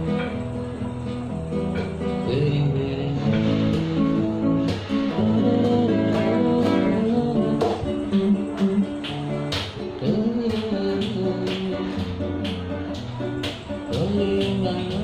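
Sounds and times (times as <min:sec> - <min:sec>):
acoustic guitar strumming: 0:00.0 - 0:15.0
man singing: 0:02.0 - 0:13.0, 0:13.7 - 0:15.0.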